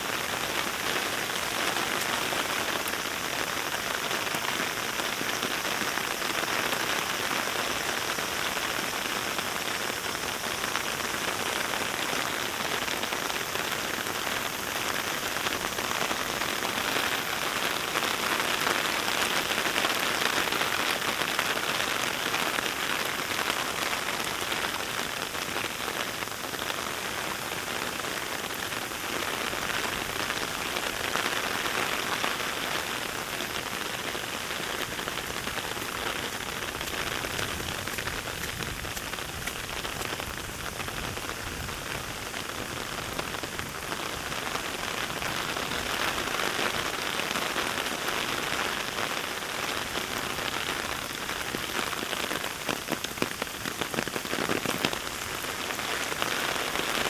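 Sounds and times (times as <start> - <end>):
heavy rain patter: 0.0 - 57.0.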